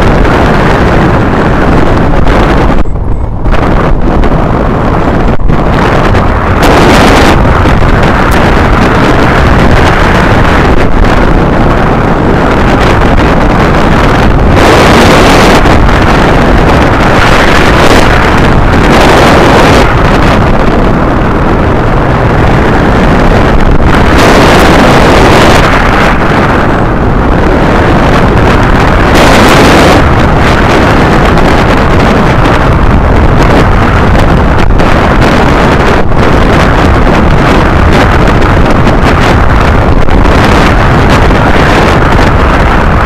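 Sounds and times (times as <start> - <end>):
wind roaring over microphone: 0.0 - 43.0.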